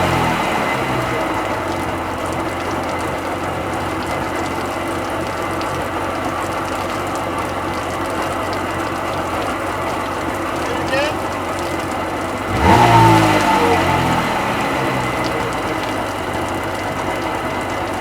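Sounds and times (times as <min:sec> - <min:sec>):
two-stroke engine idling: 0:00.0 - 0:18.0.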